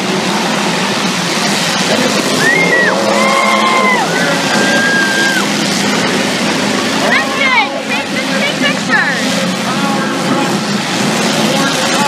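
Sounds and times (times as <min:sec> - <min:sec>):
crowd noise: 0:00.0 - 0:12.0
race truck engines: 0:00.0 - 0:12.0
spectators' high held calls: 0:00.8 - 0:12.0.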